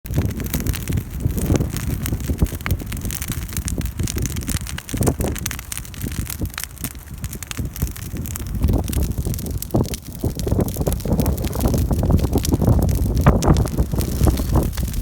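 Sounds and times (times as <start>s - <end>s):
campfire wood crackling: 0.0s - 15.0s
wind rumble on microphone: 0.0s - 15.0s.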